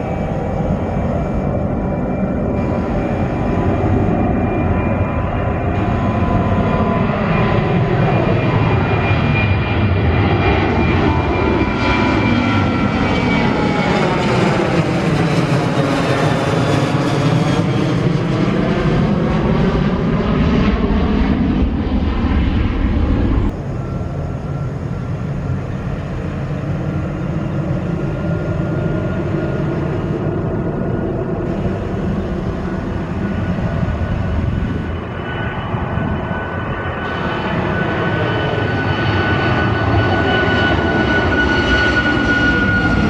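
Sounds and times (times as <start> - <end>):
airliner engines passing: 0.0 - 43.0
thin high engine whine: 0.0 - 43.0.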